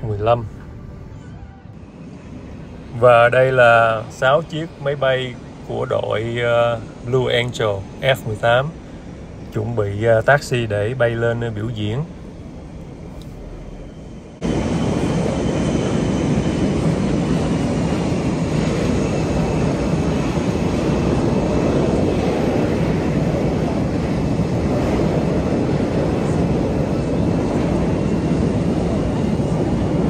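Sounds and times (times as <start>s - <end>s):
faint high jet whine: 0.0s - 30.0s
jet engines roaring: 0.0s - 30.0s.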